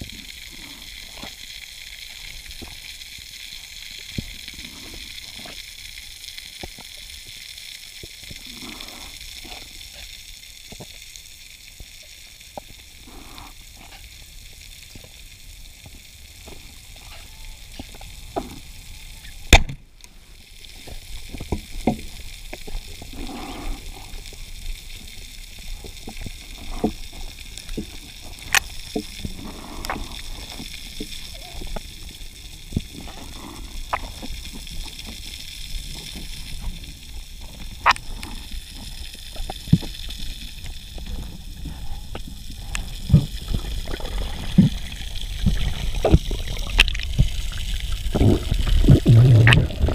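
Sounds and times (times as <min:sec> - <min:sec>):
faint crackling clicks: 0:00.0 - 0:49.9
underwater hiss: 0:00.0 - 0:49.9
water swishes: 0:00.0 - 0:49.9.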